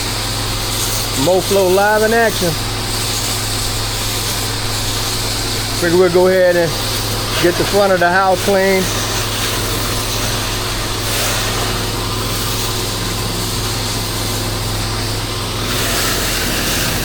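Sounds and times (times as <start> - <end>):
engine running: 0.0 - 17.0
water spraying hiss: 0.0 - 17.0.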